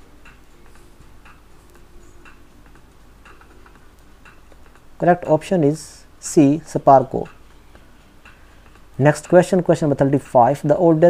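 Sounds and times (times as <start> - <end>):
faint clock-like ticking: 0.0 - 11.0
low steady hum: 0.0 - 11.0.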